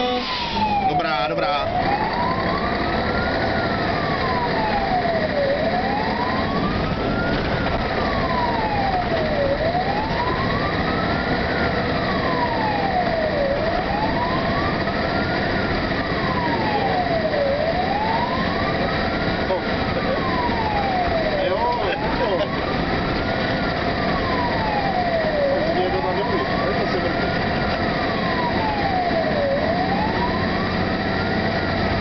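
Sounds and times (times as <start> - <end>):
fire engine siren wailing: 0.0 - 32.0
road noise: 0.0 - 32.0
truck engine: 0.0 - 32.0.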